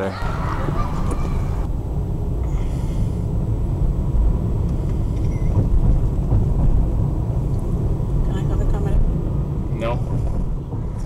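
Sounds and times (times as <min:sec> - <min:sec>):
car driving on road: 0:00.0 - 0:11.0
wind noise: 0:00.2 - 0:11.0.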